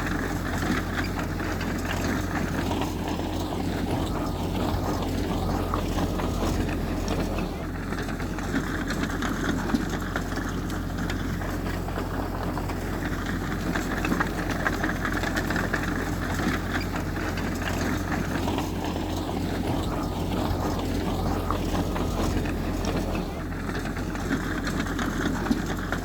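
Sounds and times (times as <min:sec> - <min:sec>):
heavy machinery engine drone: 0:00.0 - 0:26.0.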